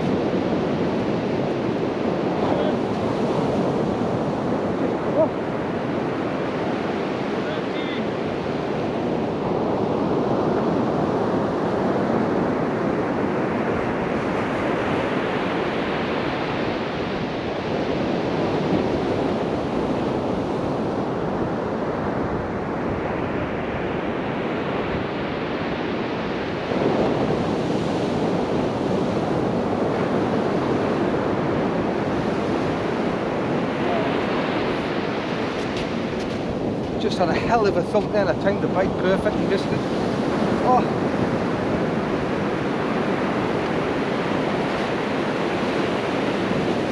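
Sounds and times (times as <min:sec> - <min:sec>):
surf washing onto beach: 0:00.0 - 0:46.9.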